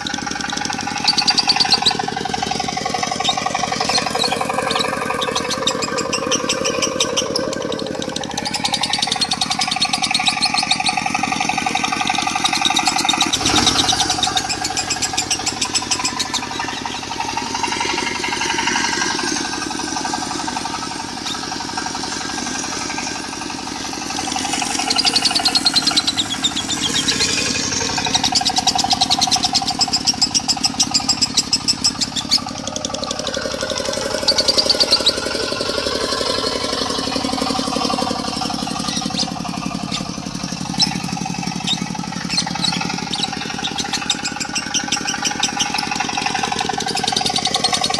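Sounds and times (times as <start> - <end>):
bird chattering trills: 0.0 - 47.9
diesel engine running: 0.0 - 47.9.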